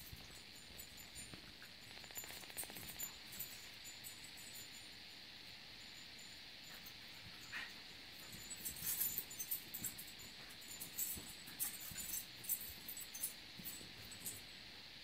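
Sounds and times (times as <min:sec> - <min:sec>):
faint high clinking: 0:00.0 - 0:14.8.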